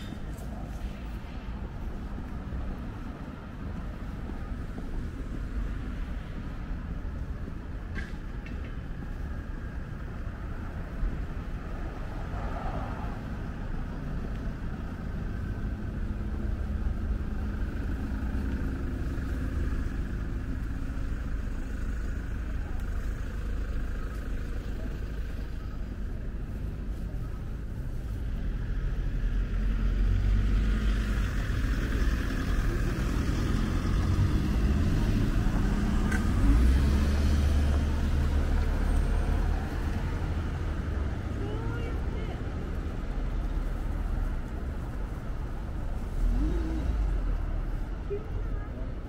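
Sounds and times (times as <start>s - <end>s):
cars passing: 0.0s - 49.0s.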